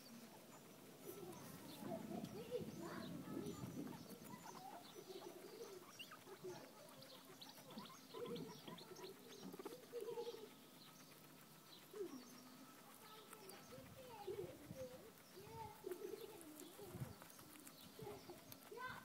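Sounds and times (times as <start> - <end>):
guinea pig squeaking calls: 0.0 - 19.0
guinea pigs chewing grass: 0.0 - 19.0.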